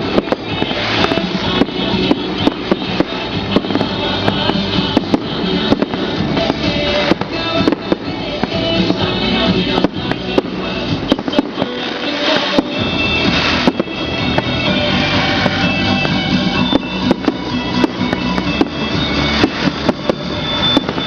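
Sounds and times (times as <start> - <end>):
fireworks cracking and popping: 0.0 - 21.0
music playing: 0.0 - 21.0.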